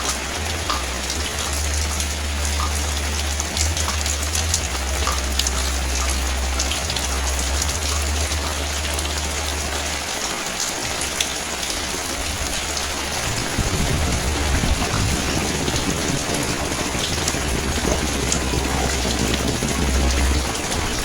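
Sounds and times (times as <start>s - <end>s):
low rumble: 0.0s - 10.3s, 10.9s - 21.0s
steady rain on hard surfaces: 0.0s - 21.0s.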